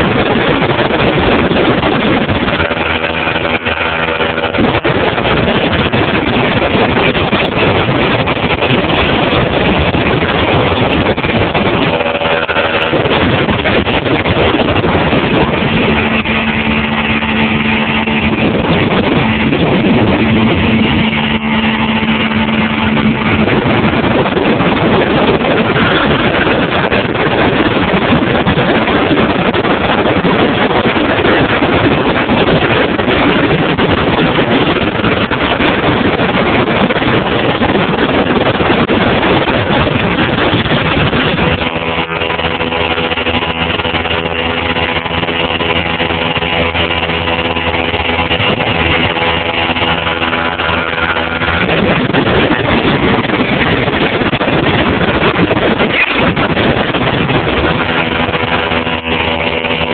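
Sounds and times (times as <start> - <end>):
motorboat engine: 0.0 - 59.9
wind and water rushing: 0.0 - 59.9.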